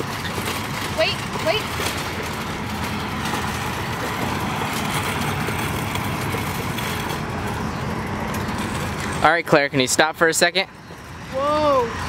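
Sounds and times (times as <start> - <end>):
shopping cart rolling over asphalt: 0.0 - 12.0.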